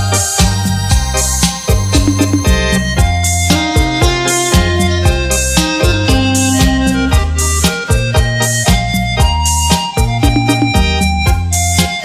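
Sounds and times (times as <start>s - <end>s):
bass line: 0.0s - 12.0s
string-like keyboard melody: 0.0s - 12.0s
steady drum beat: 1.7s - 12.0s.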